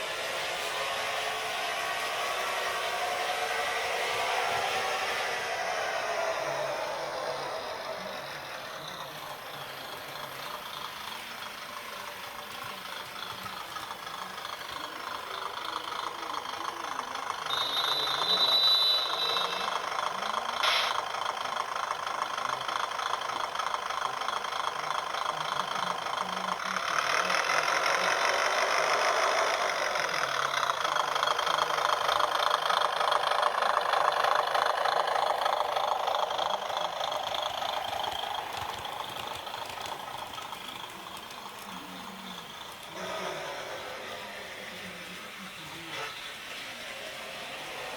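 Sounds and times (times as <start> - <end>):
model train rattling on track: 0.0 - 47.9.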